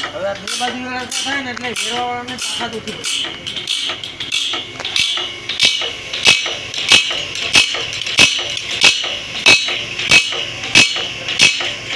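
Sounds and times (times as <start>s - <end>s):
sharp metallic click: 0.0s - 11.8s
grinding machine hiss: 0.0s - 11.9s.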